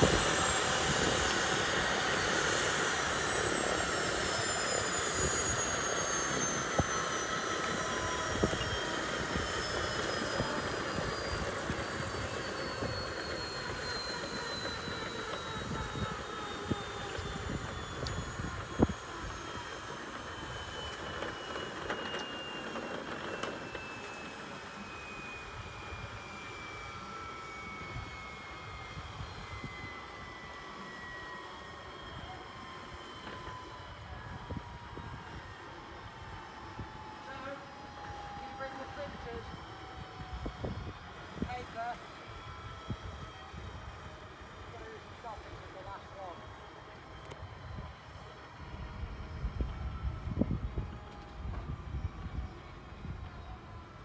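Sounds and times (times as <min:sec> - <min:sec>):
helicopter rotor rush: 0:00.0 - 0:54.0
helicopter turbine whine: 0:00.0 - 0:54.0.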